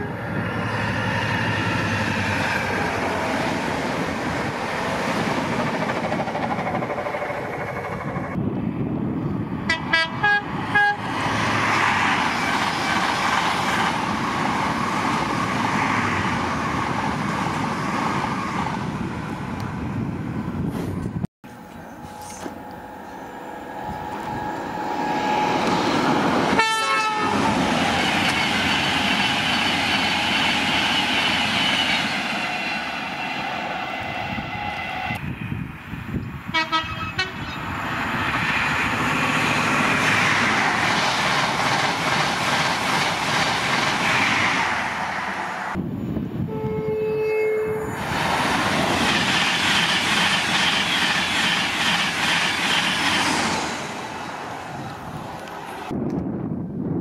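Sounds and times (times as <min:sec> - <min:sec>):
high-speed trains passing: 0:00.0 - 0:57.0.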